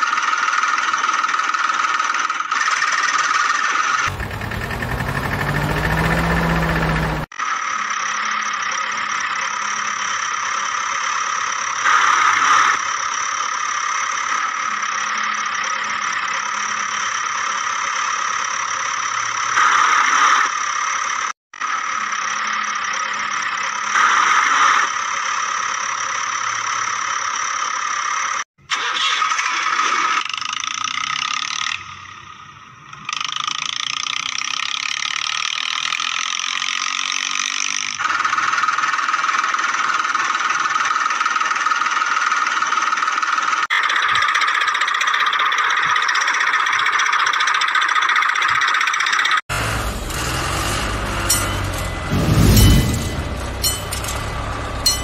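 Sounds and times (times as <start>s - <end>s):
engine with high whine: 0.0s - 55.0s.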